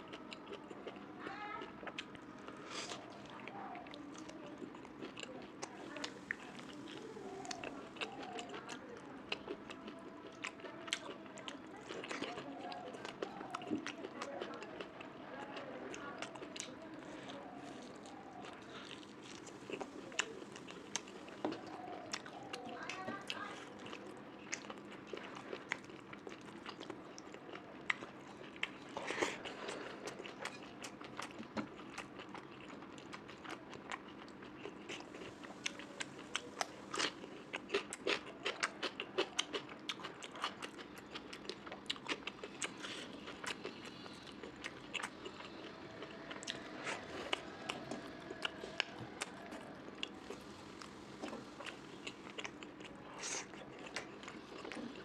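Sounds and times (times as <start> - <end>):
close chewing with mouth clicks: 0.0 - 55.0.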